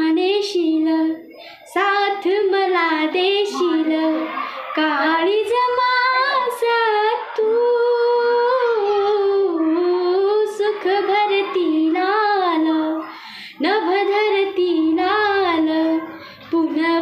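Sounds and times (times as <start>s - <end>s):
young woman singing: 0.0s - 17.0s.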